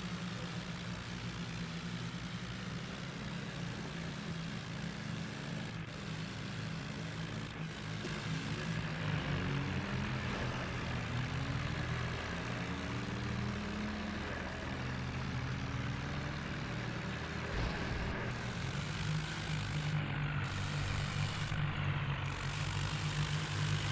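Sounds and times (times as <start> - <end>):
tractor engine running: 0.0 - 23.9.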